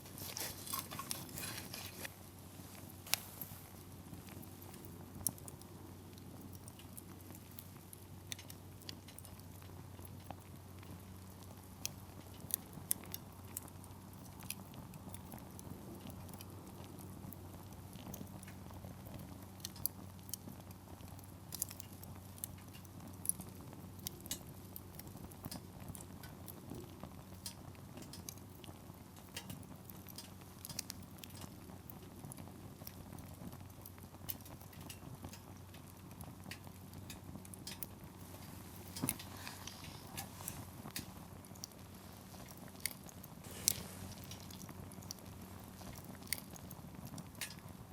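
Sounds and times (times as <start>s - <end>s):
campfire crackling and popping: 0.0s - 47.9s
soft steady background: 0.0s - 47.9s.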